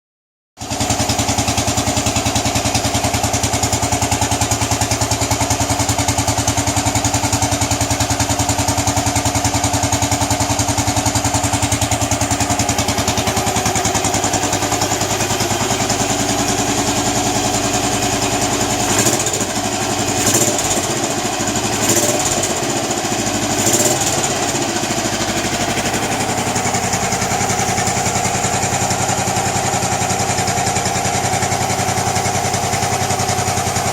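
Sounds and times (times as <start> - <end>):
single-cylinder engine thumping: 0.6 - 33.9.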